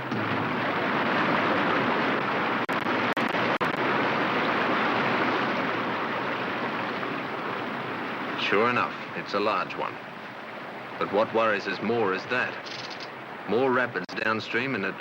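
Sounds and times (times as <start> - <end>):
fast-flowing river water: 0.0 - 15.0.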